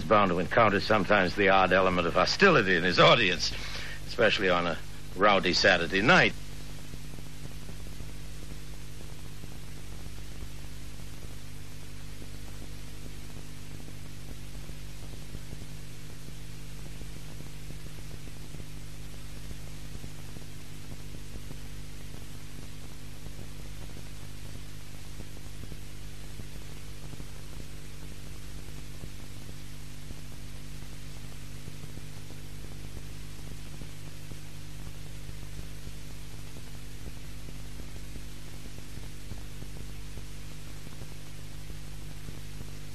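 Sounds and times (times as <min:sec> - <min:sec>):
electrical hum: 0:00.0 - 0:42.9
tape hiss: 0:00.0 - 0:42.9.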